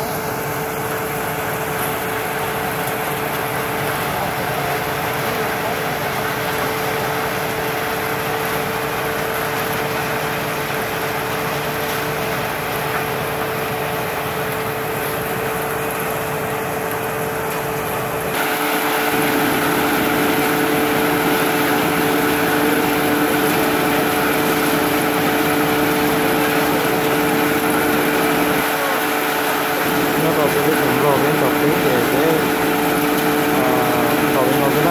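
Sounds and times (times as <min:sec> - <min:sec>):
threshing machine running: 0:00.0 - 0:34.9.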